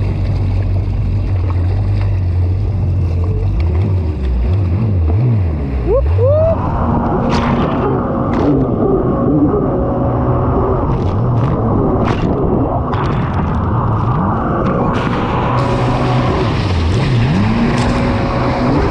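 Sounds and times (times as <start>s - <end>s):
jet ski engine running: 0.0s - 18.9s
wind rumble on microphone: 0.0s - 18.9s.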